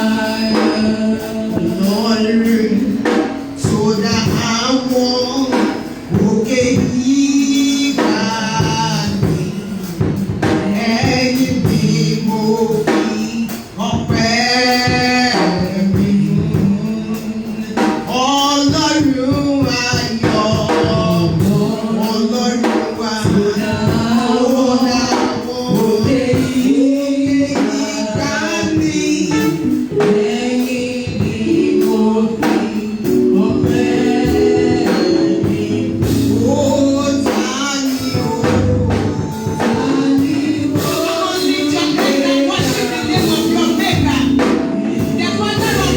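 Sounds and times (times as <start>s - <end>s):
band accompaniment: 0.0s - 45.9s
voices singing gospel: 0.0s - 45.9s.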